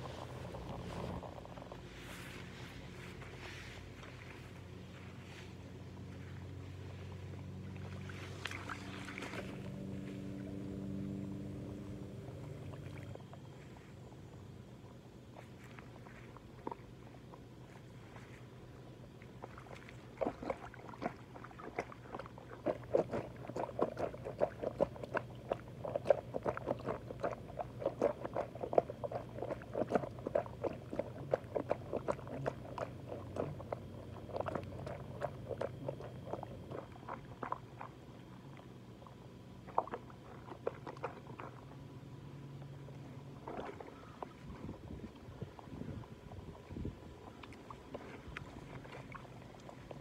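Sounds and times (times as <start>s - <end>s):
low steady hum: 0.0s - 50.0s
mud squelching: 0.0s - 50.0s.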